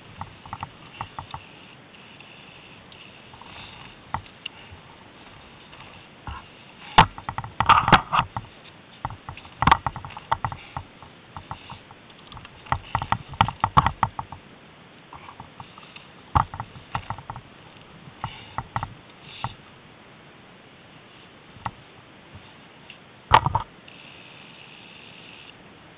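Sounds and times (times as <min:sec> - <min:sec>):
handling clicks and rustles: 0:00.0 - 0:19.7, 0:21.5 - 0:24.0.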